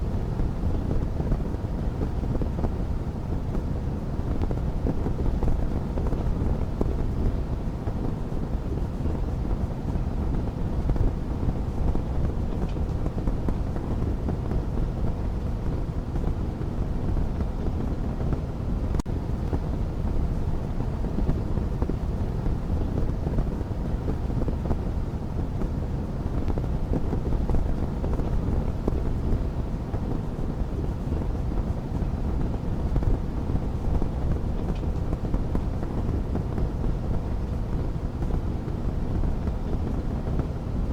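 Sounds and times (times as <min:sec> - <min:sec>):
fire roaring in fireplace: 0:00.0 - 0:40.9.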